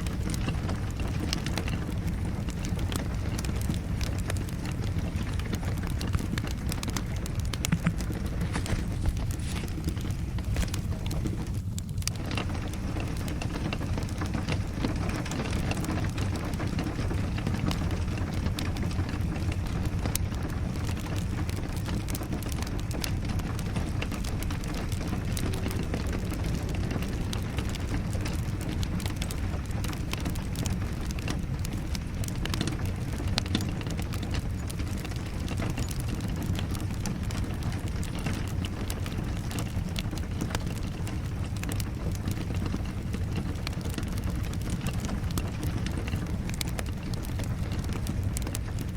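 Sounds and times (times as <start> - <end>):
steady rain: 0.0 - 48.9
wood fire crackling: 0.0 - 48.9.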